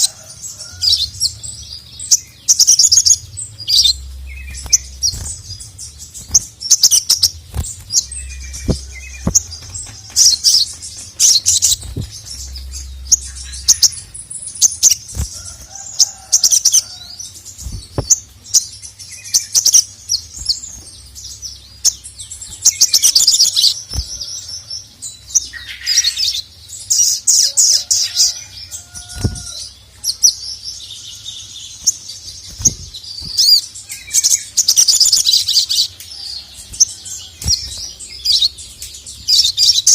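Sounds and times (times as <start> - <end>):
bird chirping and clicking: 2.1 - 18.8, 19.4 - 24.5, 25.3 - 30.4, 31.7 - 39.9.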